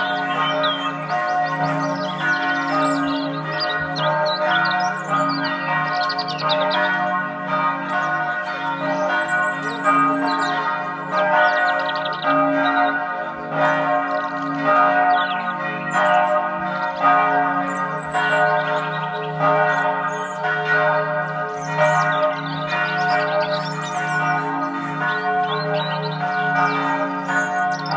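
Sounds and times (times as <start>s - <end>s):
bells ringing: 0.0s - 27.9s
birds chirping: 0.0s - 27.9s.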